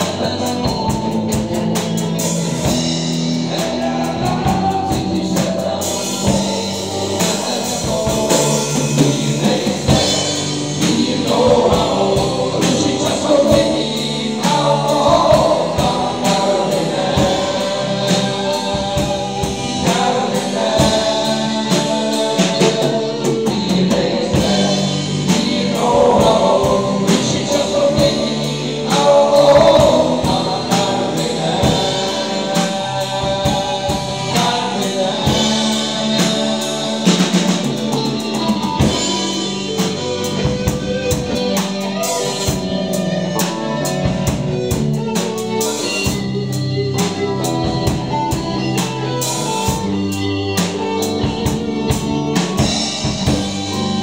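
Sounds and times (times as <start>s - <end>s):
electric guitars: 0.0s - 54.0s
male voices singing: 0.0s - 54.0s
steady drum beat: 0.0s - 54.0s.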